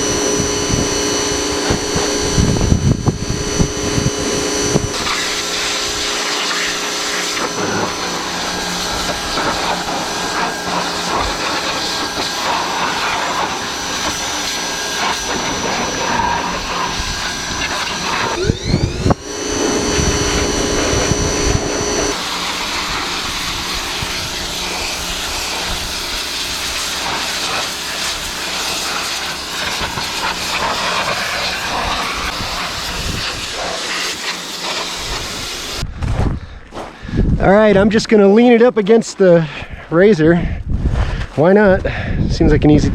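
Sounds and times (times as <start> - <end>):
pressure washer spraying: 0.0 - 35.8.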